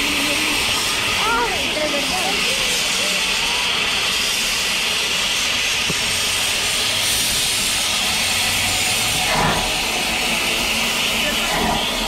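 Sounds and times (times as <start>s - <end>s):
steam hissing from locomotive: 0.0s - 12.0s.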